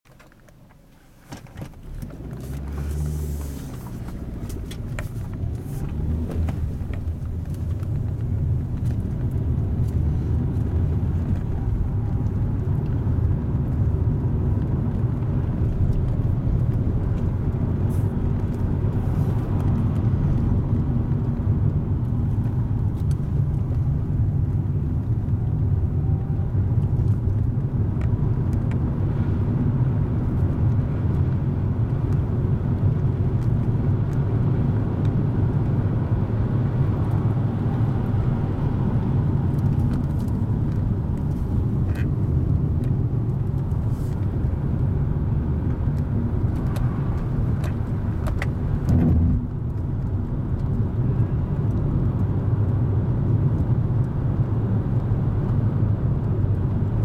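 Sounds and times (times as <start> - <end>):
car engine and tyres: 0.1 - 57.0.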